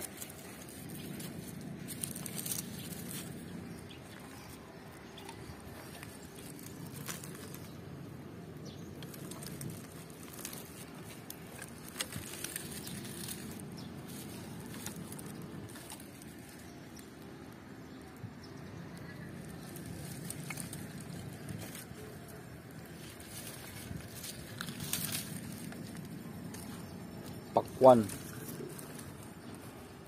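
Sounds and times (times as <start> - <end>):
leaves and dry grass rustling: 0.0 - 30.0.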